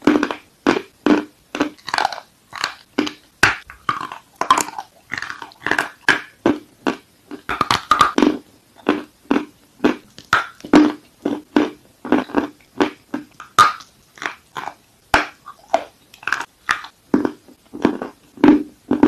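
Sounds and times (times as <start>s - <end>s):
crunchy chewing: 0.0s - 19.0s.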